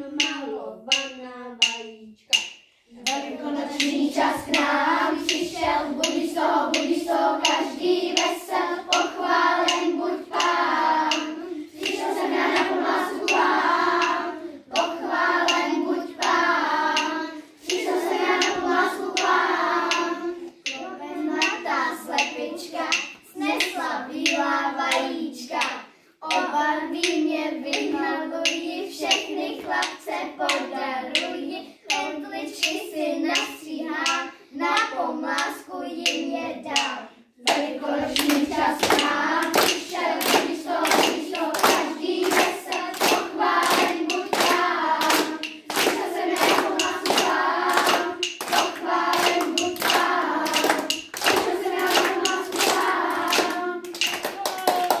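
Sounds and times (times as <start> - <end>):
children singing: 0.0 - 55.0
hands clapping to a beat: 0.2 - 55.0.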